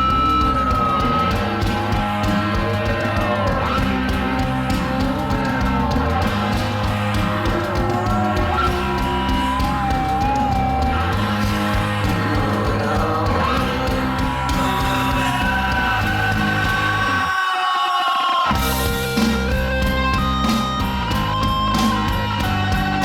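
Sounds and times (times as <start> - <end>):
rock song with guitar and vocals: 0.0 - 23.0.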